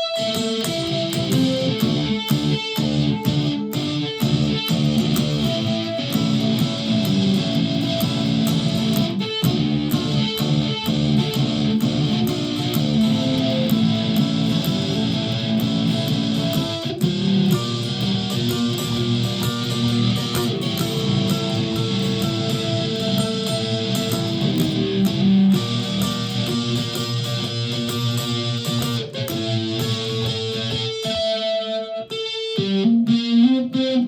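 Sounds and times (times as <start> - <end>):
electric ukulele picking and strumming: 0.0 - 34.0.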